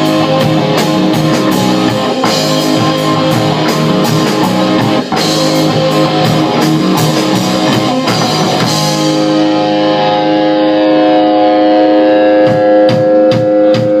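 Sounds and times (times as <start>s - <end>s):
drum hits: 0.0s - 9.8s, 12.4s - 14.0s
rock music with guitar: 0.0s - 14.0s.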